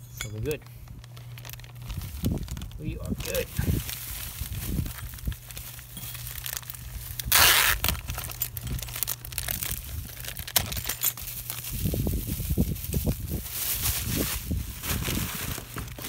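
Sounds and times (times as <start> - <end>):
plastic bag crinkling: 0.4 - 16.0.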